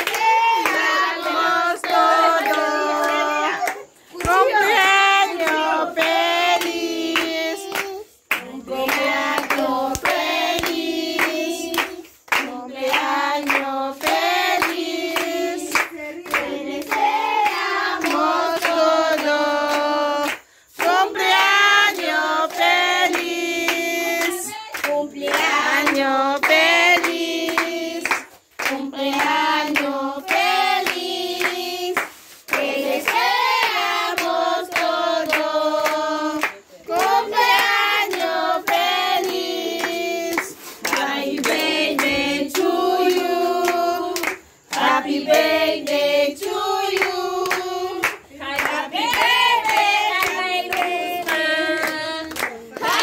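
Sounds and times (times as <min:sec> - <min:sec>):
children and women singing: 0:00.0 - 0:53.0
hands clapping: 0:00.0 - 0:53.0.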